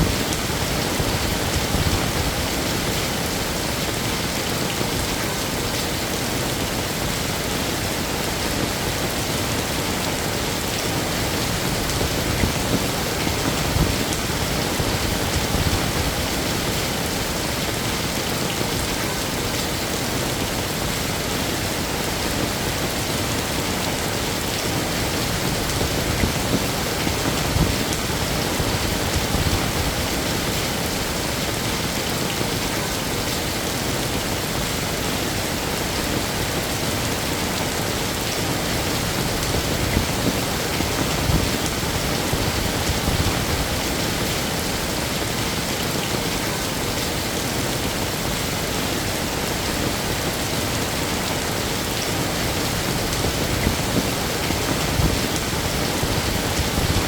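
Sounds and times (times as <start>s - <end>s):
heavy rain on hard surfaces: 0.0s - 57.0s
loud raindrops: 0.0s - 57.0s.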